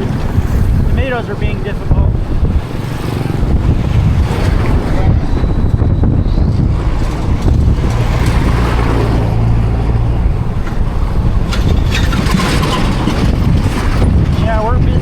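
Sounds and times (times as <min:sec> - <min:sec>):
vehicle engine running: 0:00.0 - 0:14.8
highway traffic: 0:00.0 - 0:15.0
wind rushing over microphone: 0:00.0 - 0:15.0.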